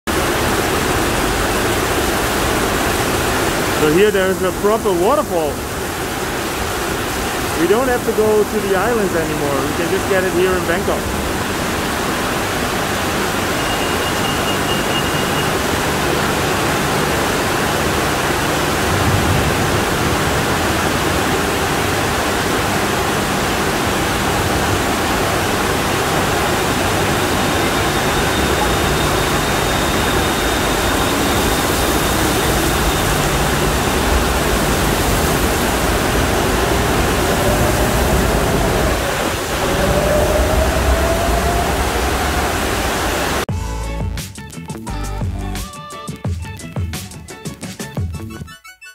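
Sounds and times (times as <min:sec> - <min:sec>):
torrential rain pouring: 0:00.1 - 0:43.5.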